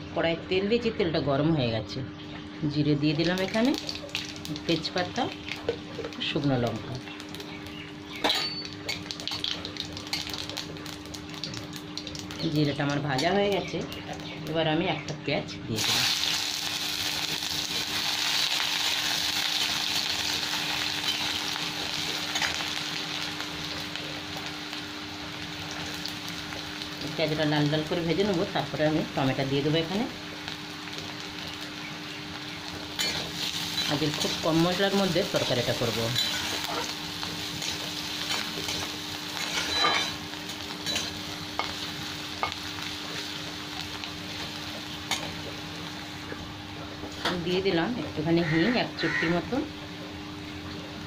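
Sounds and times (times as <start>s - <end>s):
onion sizzling in hot oil: 2.6s - 51.0s.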